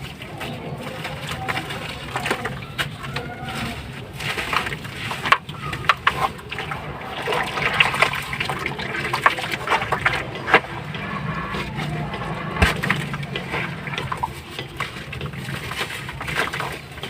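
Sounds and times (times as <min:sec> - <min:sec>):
slabs crumbling in water: 0:00.0 - 0:17.0.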